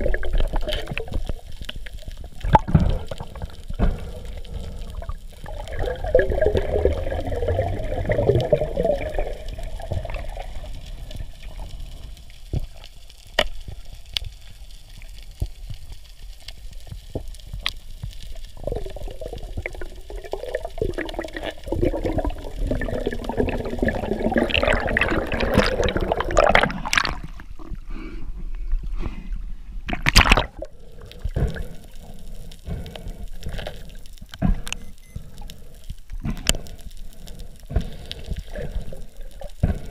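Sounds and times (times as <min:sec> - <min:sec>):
water gurgling and sloshing: 0:00.0 - 0:13.0, 0:18.3 - 0:39.9.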